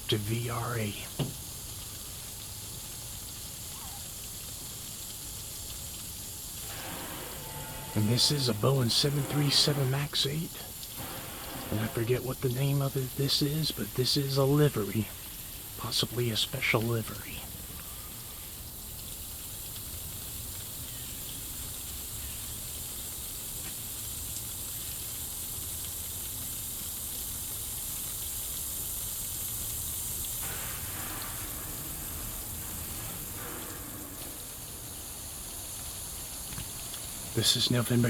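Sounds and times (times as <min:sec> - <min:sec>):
outdoor hiss: 0:00.0 - 0:38.0.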